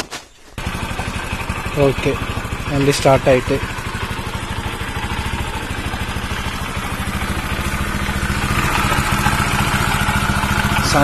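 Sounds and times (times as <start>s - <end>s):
motorcycle engine idling: 0.6s - 11.0s.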